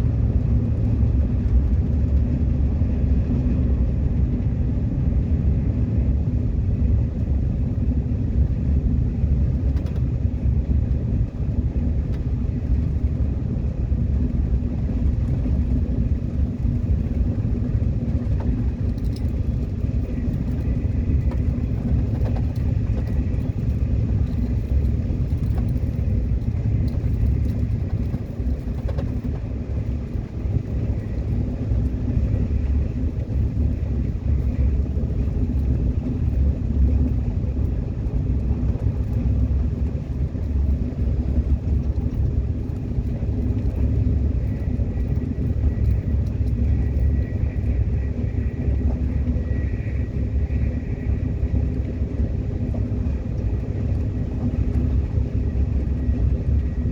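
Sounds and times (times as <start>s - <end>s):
subway train rumbling: 0.0s - 56.9s.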